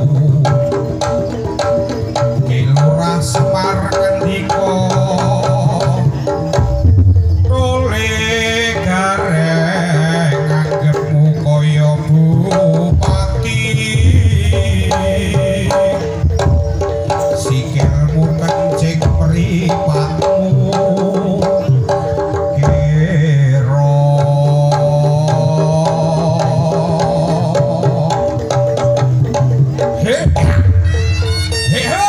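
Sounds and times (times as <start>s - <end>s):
hand drums beating fast: 0.0s - 32.0s
wavering reedy melody: 0.0s - 32.0s.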